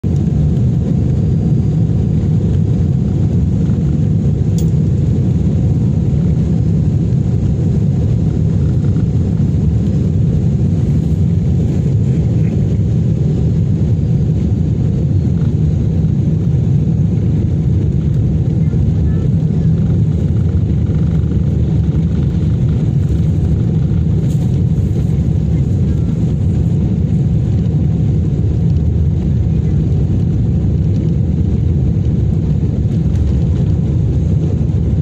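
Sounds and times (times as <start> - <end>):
jet engine cabin rumble: 0.0 - 35.0.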